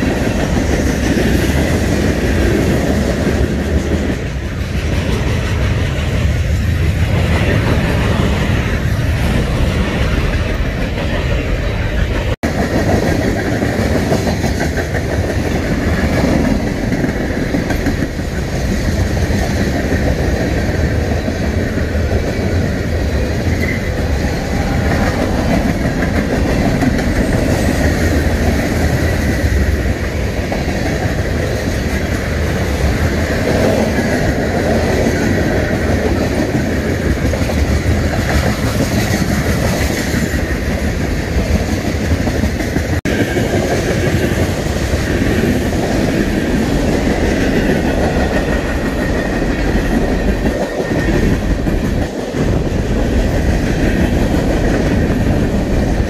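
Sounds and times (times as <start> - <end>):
steel wheels rolling on rails: 0.0 - 56.0.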